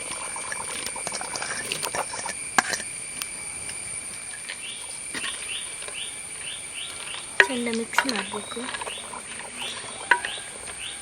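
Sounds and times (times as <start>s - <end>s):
steady high whine: 0.0s - 11.0s.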